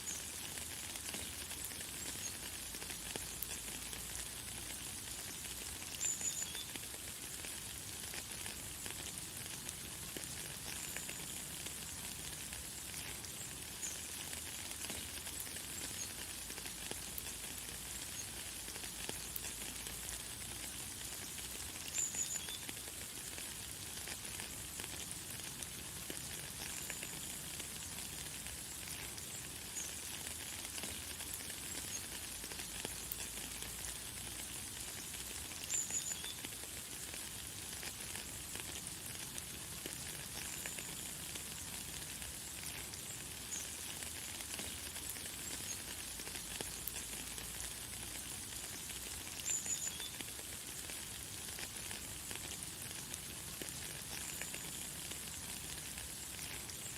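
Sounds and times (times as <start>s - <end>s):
light rain hissing: 0.0s - 56.9s.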